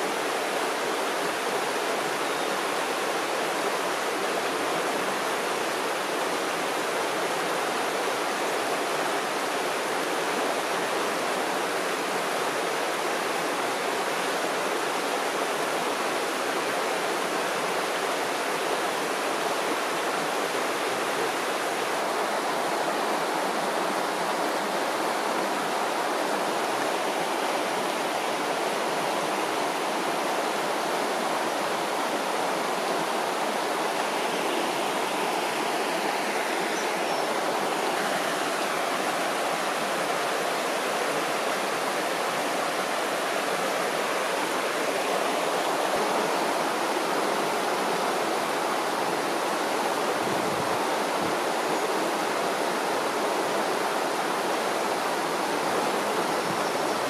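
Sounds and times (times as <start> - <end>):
river water running over rocks: 0.0 - 57.0.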